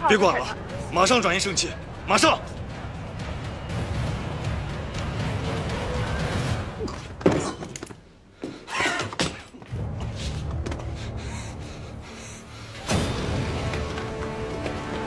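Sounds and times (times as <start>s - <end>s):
background music: 0.0s - 8.3s, 9.7s - 15.0s.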